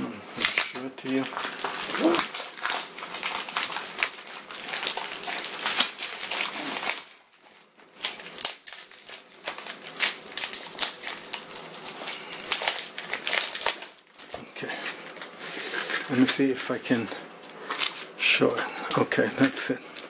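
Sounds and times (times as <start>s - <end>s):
plastic wrap crinkling and tearing: 0.0s - 20.0s.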